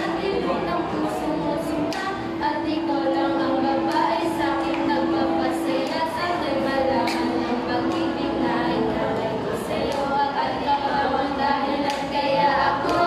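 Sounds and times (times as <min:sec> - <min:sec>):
girls singing: 0:00.0 - 0:13.0.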